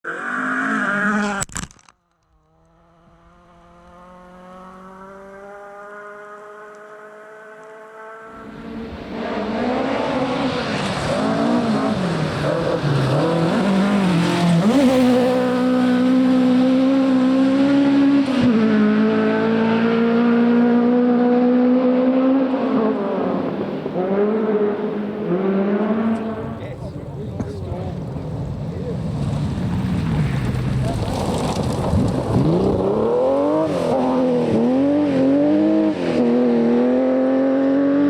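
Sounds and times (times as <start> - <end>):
rally car engine revving: 2.5 - 38.0.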